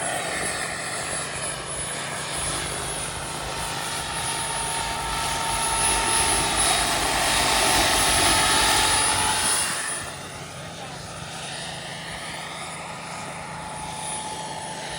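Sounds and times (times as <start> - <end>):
model helicopter turbine whine: 0.0 - 14.9.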